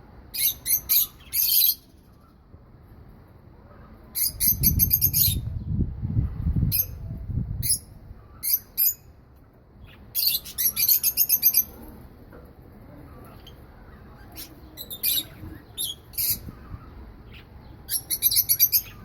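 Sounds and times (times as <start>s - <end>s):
pet birds chirping: 0.3s - 2.4s, 3.7s - 9.1s, 9.8s - 12.0s, 13.0s - 19.0s.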